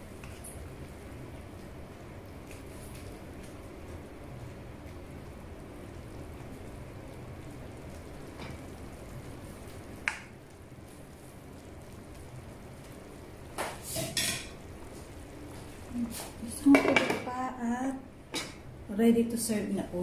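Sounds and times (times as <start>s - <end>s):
broth simmering in a frying pan: 0.0s - 20.0s.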